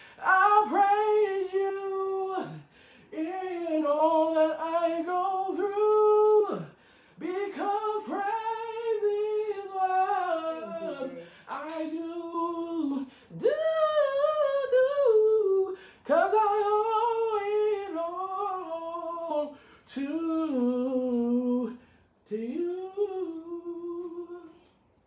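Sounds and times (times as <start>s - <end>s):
man singing a cappella: 0.0s - 24.8s.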